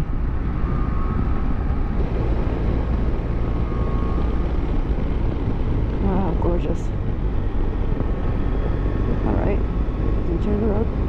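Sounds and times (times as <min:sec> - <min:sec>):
motorcycle engine and road noise: 0:00.0 - 0:11.0
wind rushing over microphone: 0:00.0 - 0:11.0.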